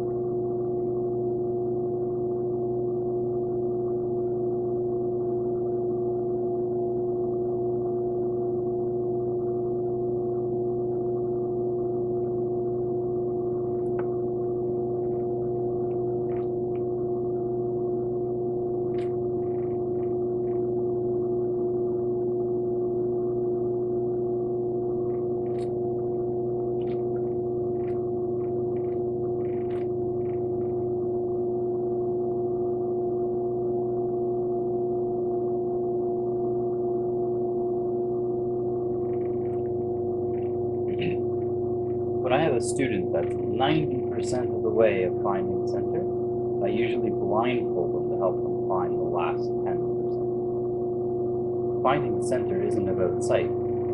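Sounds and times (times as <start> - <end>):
pottery wheel motor humming: 0.0 - 53.9.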